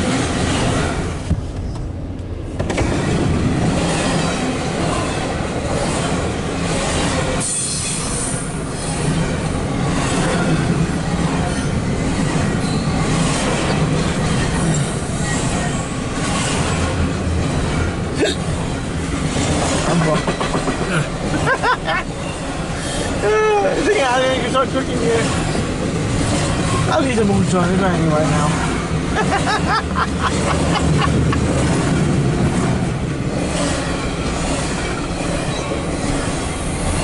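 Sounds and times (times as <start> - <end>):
steel wheels rumbling on rail: 0.0 - 37.0.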